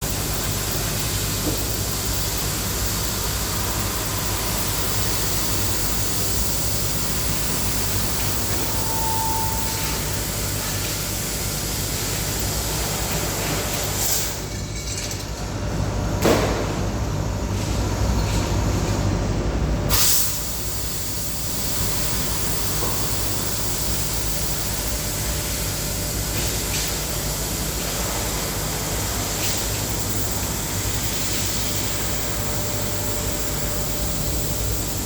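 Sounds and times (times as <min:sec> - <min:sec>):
mechanical hiss: 0:00.0 - 0:14.5, 0:19.9 - 0:35.0
low mechanical hum: 0:00.0 - 0:35.0.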